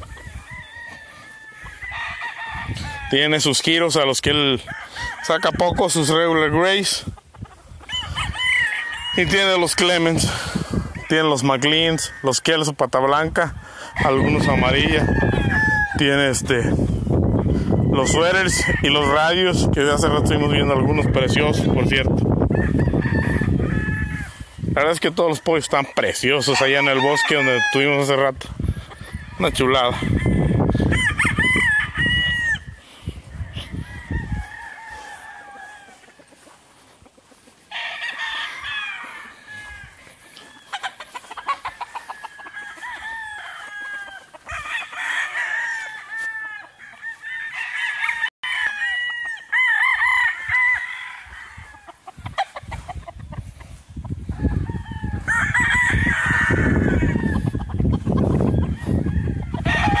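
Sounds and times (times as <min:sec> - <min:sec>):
roosters crowing: 0:00.0 - 1:00.0.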